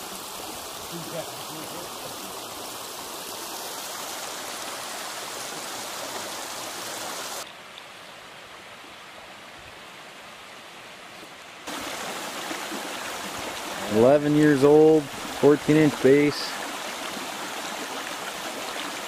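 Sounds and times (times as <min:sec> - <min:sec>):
creek running over stones: 0:00.0 - 0:19.0.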